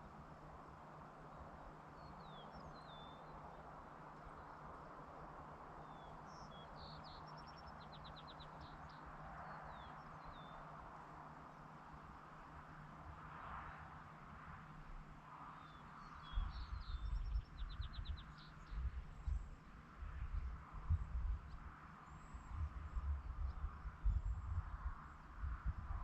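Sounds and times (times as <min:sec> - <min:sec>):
faint birds chirping: 0:00.0 - 0:12.6, 0:15.5 - 0:26.0.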